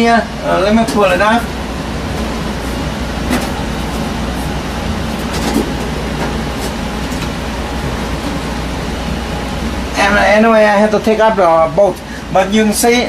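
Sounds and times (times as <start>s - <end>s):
furnace rumbling: 0.0s - 13.0s.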